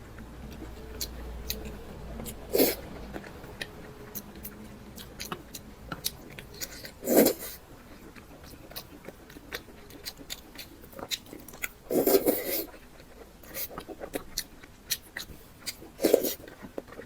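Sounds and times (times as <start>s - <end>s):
chewing and biting: 0.1s - 17.0s.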